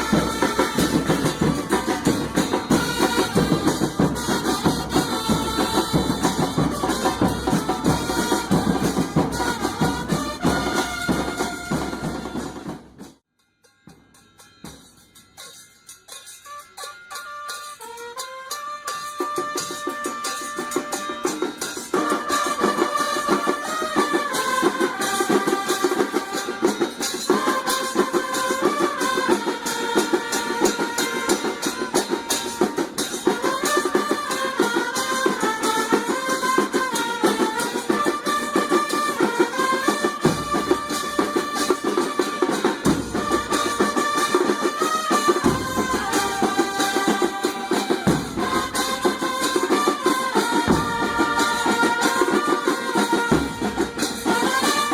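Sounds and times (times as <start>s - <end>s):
fast drumming and percussion: 0.0s - 13.2s, 13.8s - 54.9s.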